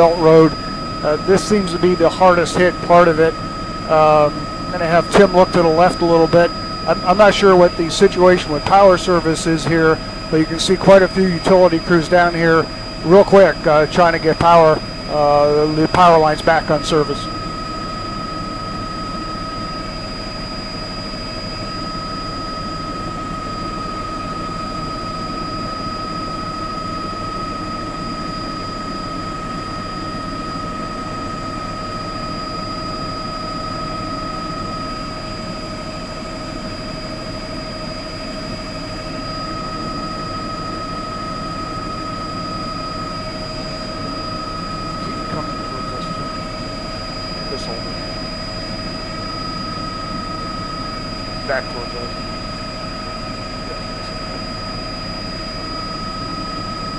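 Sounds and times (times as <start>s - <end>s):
helicopter engine and rotor drone: 0.0s - 56.9s
high-pitched whine: 0.0s - 56.9s.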